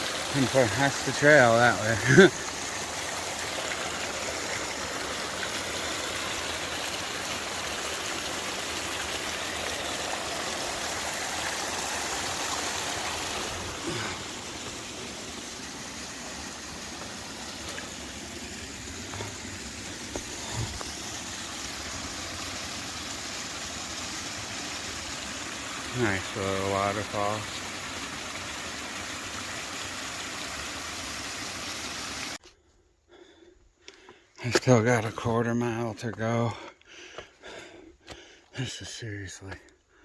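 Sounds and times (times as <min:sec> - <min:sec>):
water rushing over rock: 0:00.0 - 0:32.4.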